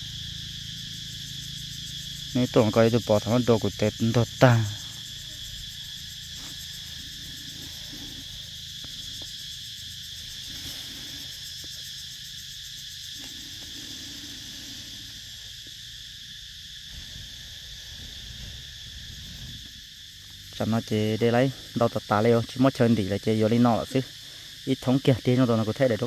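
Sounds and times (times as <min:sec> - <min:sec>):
insect chorus buzzing: 0:00.0 - 0:26.0.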